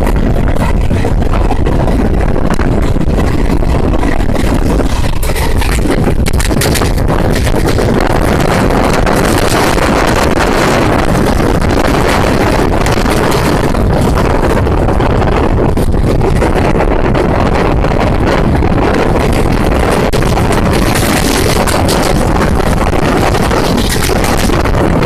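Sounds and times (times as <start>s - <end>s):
passenger train rumbling: 0.0s - 25.0s
wind buffeting microphone: 0.0s - 25.0s.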